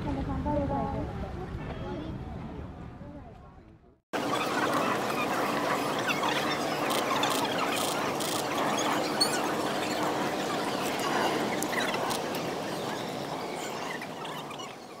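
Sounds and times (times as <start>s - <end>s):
indistinct chatter of many people: 0.0s - 15.0s.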